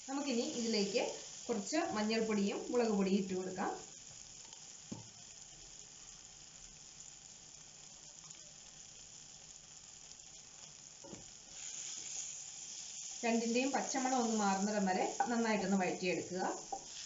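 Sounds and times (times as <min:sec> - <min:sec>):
masala sizzling in a frying pan: 0:00.0 - 0:17.0.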